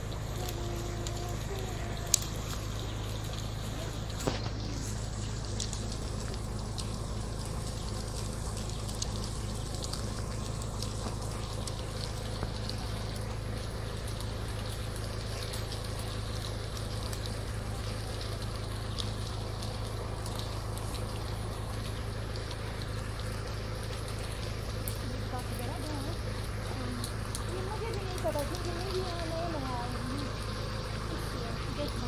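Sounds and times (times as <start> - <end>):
faint ticks: 0.0 - 32.0
flowing water rushing: 0.0 - 32.0
low steady hum: 0.0 - 32.0.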